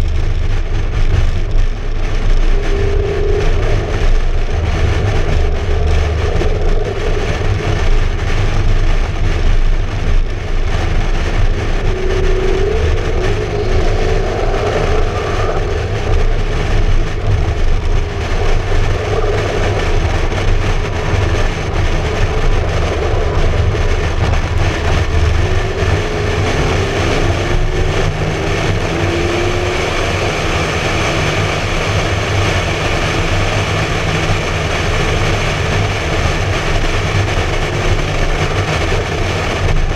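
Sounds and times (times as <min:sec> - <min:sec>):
car engine drone: 0:00.0 - 0:39.9
wind rushing over microphone: 0:00.0 - 0:39.9.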